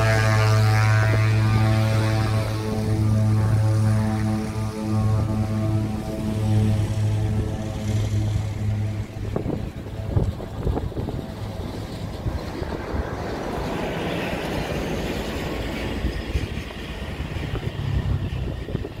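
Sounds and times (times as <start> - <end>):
propeller aircraft taking off: 0.0 - 19.0.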